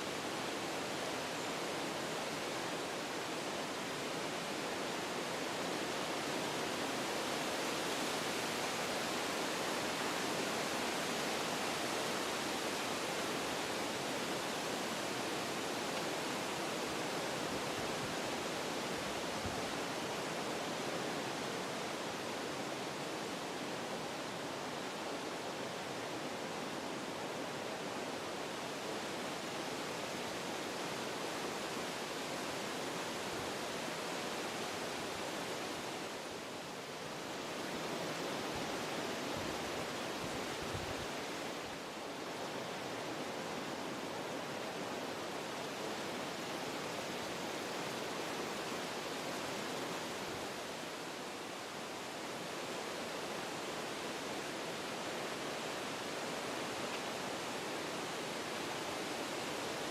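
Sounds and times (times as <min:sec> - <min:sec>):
wind blowing through trees: 0:00.0 - 0:59.9.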